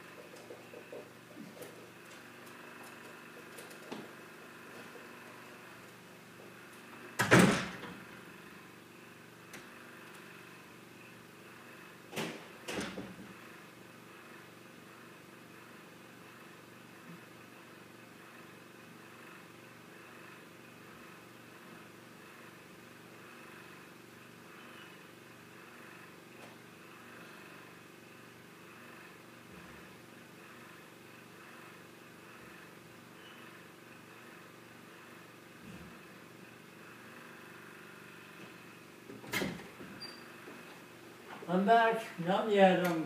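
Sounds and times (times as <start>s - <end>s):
faint room hum: 0.0s - 43.0s.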